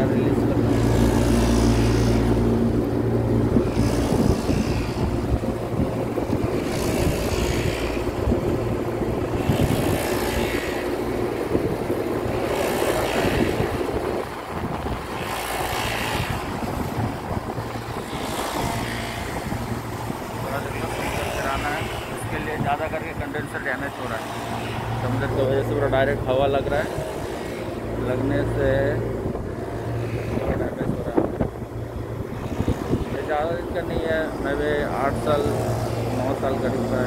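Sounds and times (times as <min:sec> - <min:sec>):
hvac units droning: 0:00.0 - 0:37.0
wind buffeting microphone: 0:00.0 - 0:37.0.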